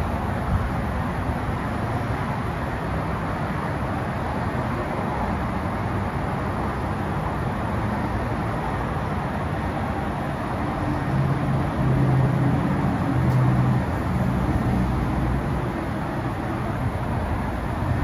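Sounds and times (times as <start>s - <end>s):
road traffic rush: 0.0s - 18.0s
vehicle engine hum passing: 0.0s - 18.0s.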